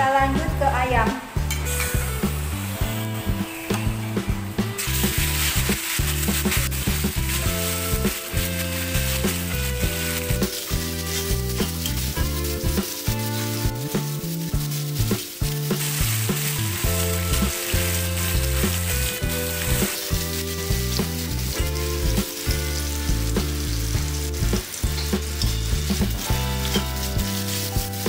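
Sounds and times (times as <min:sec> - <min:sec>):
background music with low notes: 0:00.0 - 0:28.0
chicken sizzling in oil: 0:01.4 - 0:28.0
metal spatula scraping wok: 0:01.4 - 0:28.0.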